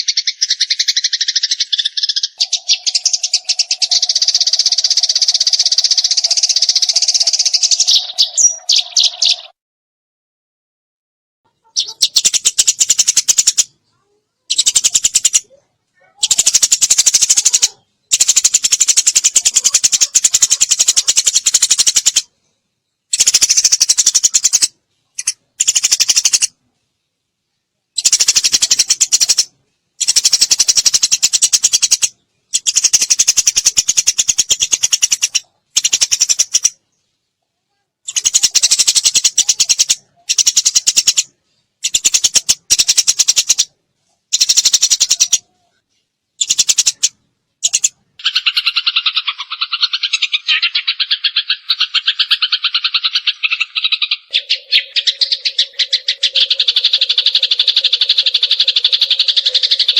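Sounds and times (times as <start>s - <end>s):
sparrow chattering: 0.0s - 9.5s, 11.5s - 22.3s, 23.1s - 26.6s, 28.0s - 37.0s, 38.1s - 45.8s, 46.4s - 59.9s.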